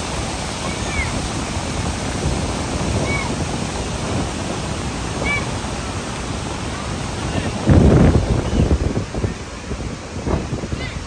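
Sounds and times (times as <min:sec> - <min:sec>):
water rushing through gate: 0:00.0 - 0:11.0
waves against masonry: 0:00.0 - 0:11.0.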